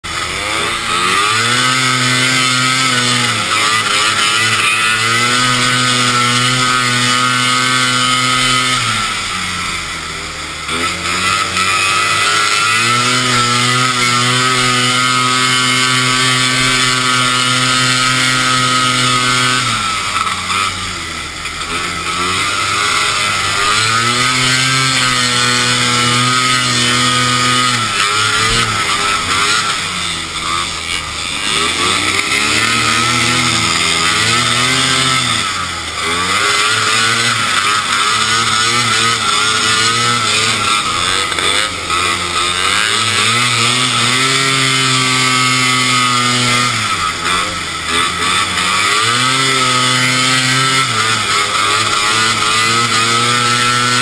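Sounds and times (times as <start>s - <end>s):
snowmobile two-stroke engine: 0.0s - 54.0s.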